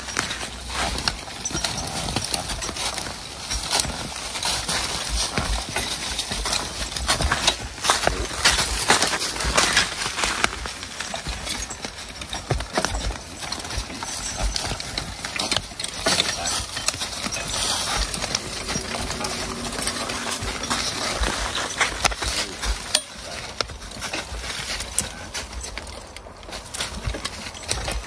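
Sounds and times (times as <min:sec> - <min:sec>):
horse hooves clopping: 0:00.0 - 0:28.0.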